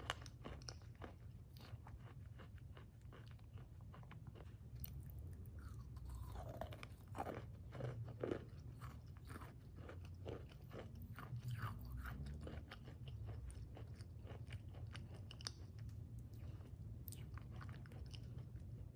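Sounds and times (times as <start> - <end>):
crunchy food being chewed: 0.0 - 18.9.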